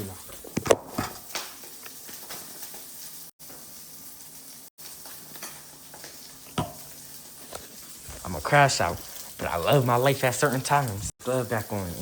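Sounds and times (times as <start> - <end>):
meat sizzling in a pan: 1.2 - 12.0.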